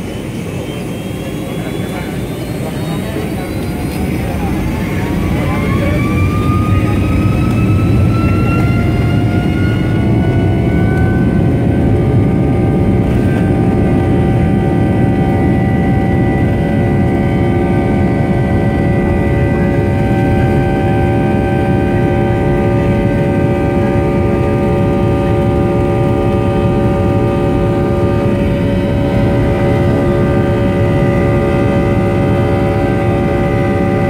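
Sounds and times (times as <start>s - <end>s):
jet engine rumbling and whining: 0.0s - 34.0s.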